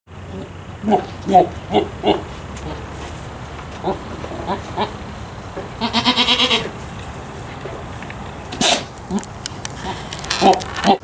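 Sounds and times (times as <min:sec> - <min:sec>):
goat bleating: 0:00.2 - 0:11.0.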